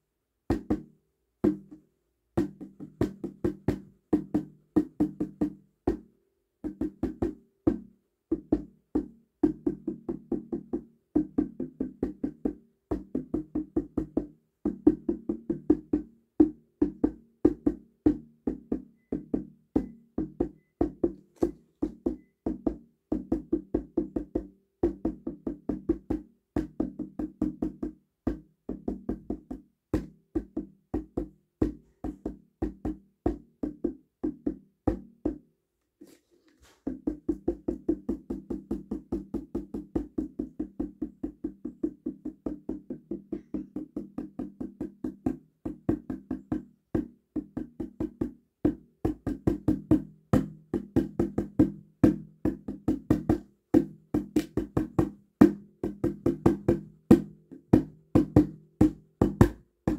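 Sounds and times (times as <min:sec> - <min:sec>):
hand drum tapped with fingertips: 0:00.5 - 0:35.5, 0:36.8 - 0:59.9.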